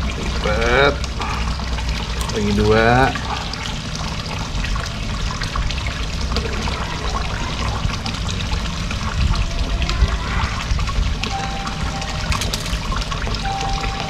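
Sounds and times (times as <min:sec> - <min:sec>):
water trickling into pond: 0:00.0 - 0:14.0.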